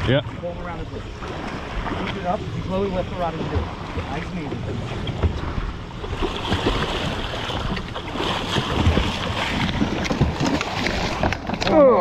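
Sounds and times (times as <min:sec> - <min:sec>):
water sloshing against boat: 0:00.0 - 0:12.0.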